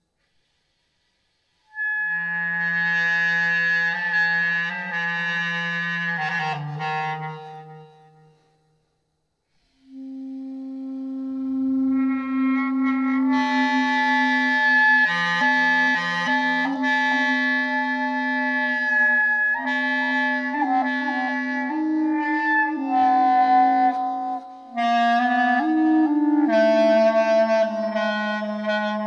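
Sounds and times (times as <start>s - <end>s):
looped clarinet held notes: 1.7s - 8.3s, 9.8s - 29.0s.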